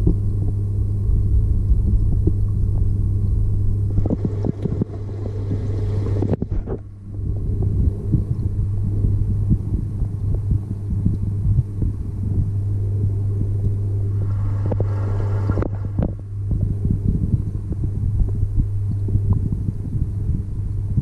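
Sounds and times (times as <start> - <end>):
low rumbling and crackling: 0.0 - 21.0
underwater pond pump hum: 0.0 - 21.0.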